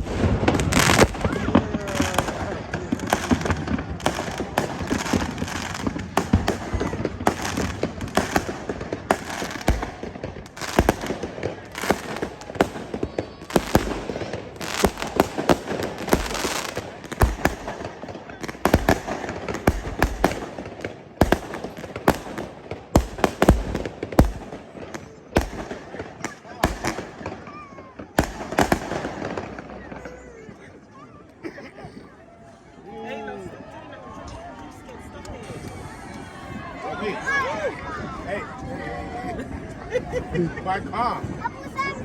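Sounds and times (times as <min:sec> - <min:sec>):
fireworks bangs and crackles: 0:00.0 - 0:32.2, 0:35.2 - 0:42.0.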